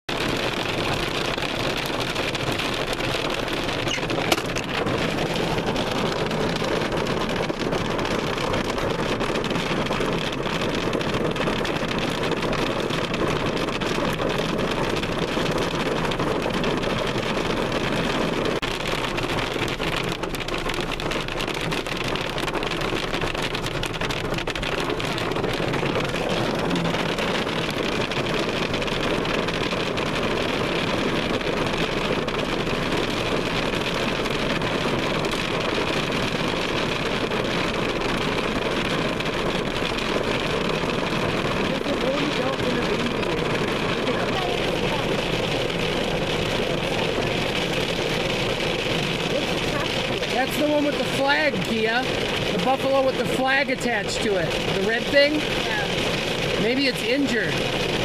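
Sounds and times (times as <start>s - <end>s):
hailstones clattering: 0.1s - 58.0s.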